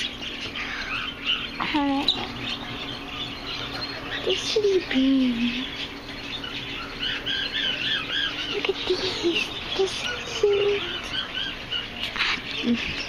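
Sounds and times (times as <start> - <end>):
caged birds twittering: 0.0 - 13.0.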